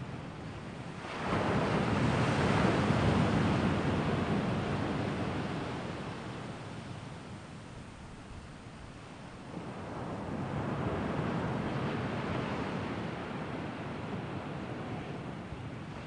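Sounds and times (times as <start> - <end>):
wind gusting across microphone: 0.0 - 16.0.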